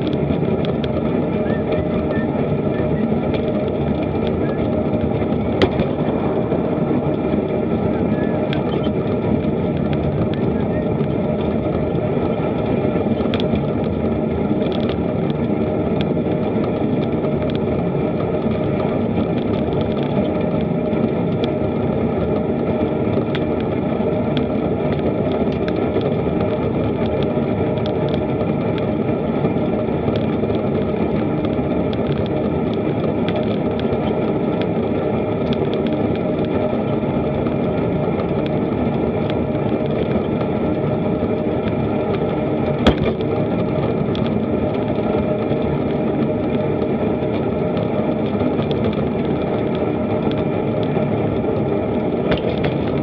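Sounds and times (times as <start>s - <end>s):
bicycle road vibration rumble: 0.0s - 53.0s
wind on microphone: 0.0s - 53.0s.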